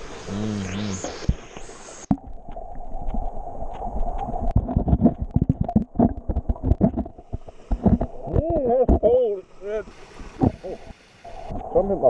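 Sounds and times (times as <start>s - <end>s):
muffled underwater moving water: 0.0s - 12.0s.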